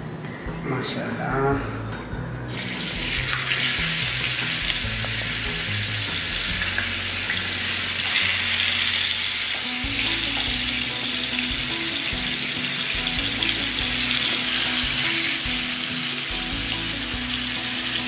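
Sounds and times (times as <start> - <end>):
chicken sizzling in hot oil: 2.5 - 18.0.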